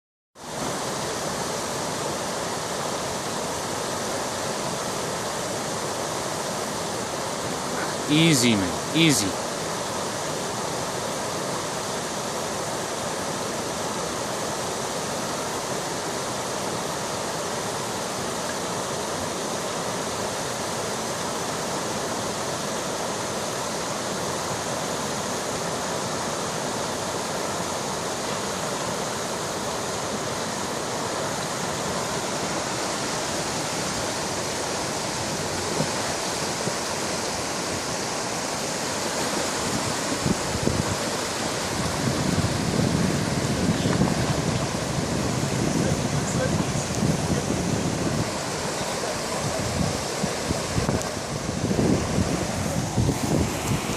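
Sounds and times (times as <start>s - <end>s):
rushing river water: 0.4s - 53.9s.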